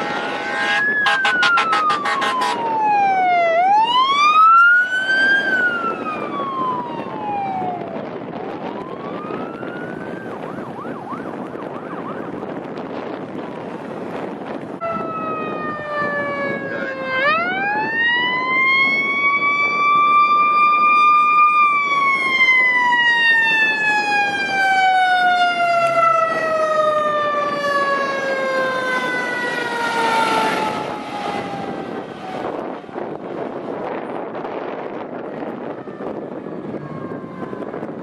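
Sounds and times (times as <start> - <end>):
fire engine siren wailing: 0.0 - 38.0
road noise of passing truck: 0.0 - 38.0.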